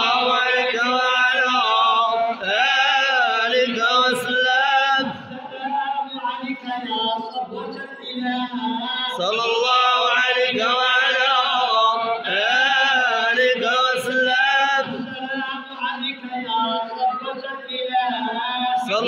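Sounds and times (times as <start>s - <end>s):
lead voice on a microphone: 0.0s - 19.0s
men chanting in unison: 0.0s - 19.0s.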